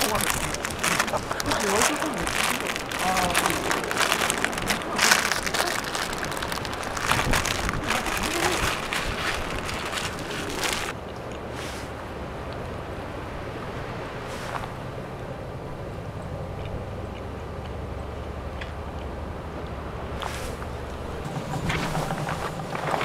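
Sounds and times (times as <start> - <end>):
steady low hum: 0.0 - 23.0
wind buffeting microphone: 0.0 - 23.0.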